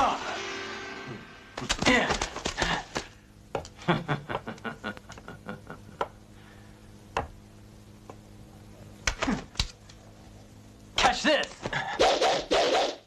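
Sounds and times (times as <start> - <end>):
faint low hum: 0.0 - 12.1.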